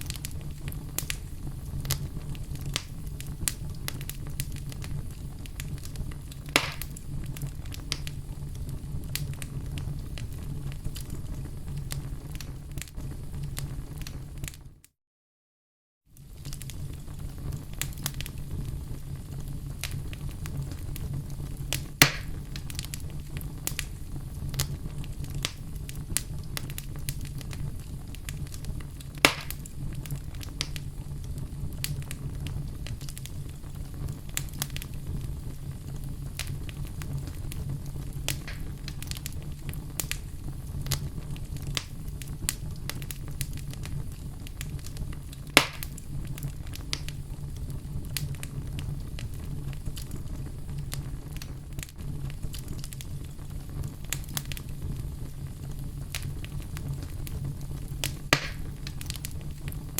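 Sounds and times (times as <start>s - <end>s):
loud fire pops: 0.0s - 14.6s, 16.2s - 59.9s
wood fire crackling: 0.0s - 14.8s, 16.1s - 59.9s.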